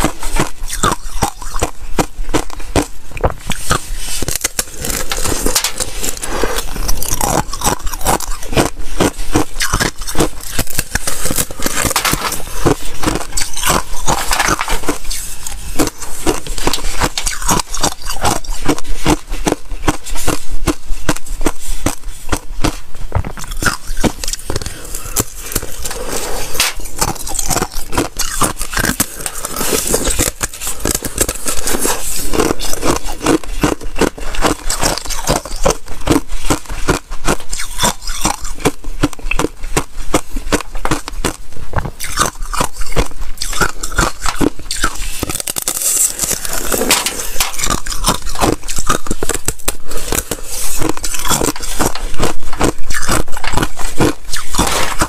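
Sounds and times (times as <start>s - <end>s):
ice crunching being chewed: 0.0s - 55.0s.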